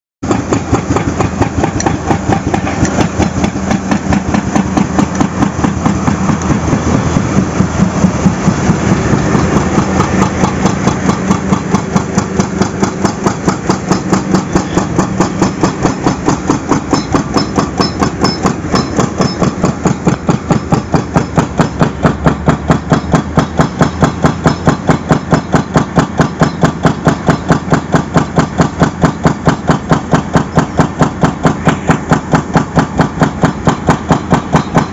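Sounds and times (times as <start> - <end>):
construction machinery pounding: 0.2 - 34.9.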